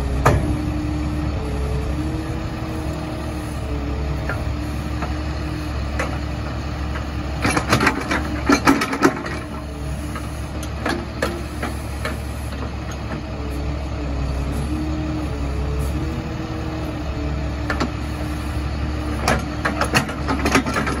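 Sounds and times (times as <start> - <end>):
backhoe engine running: 0.0 - 21.0.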